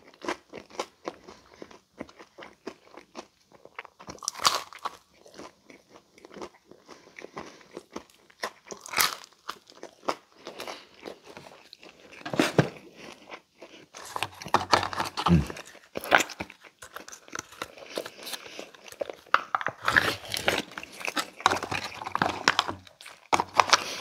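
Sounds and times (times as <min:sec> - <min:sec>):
chewing and crunching pizza: 0:00.0 - 0:24.0.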